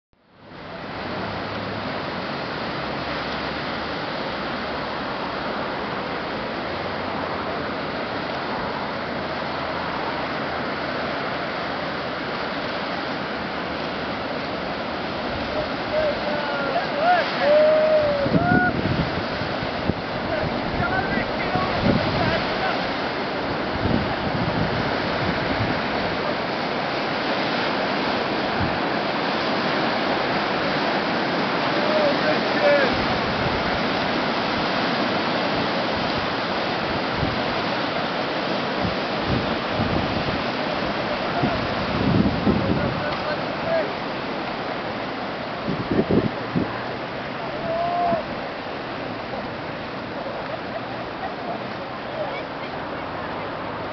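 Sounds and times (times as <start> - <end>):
rushing breaking water: 0.2 - 53.9.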